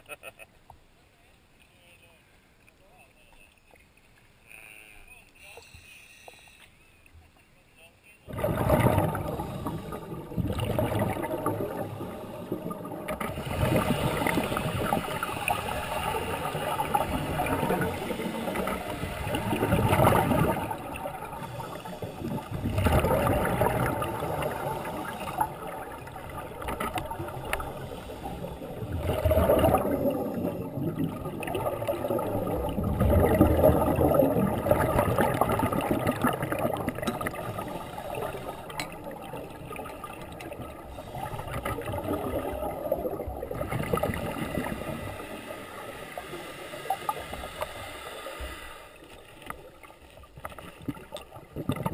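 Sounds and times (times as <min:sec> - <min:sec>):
underwater regulator bubbling: 0:08.3 - 0:51.9.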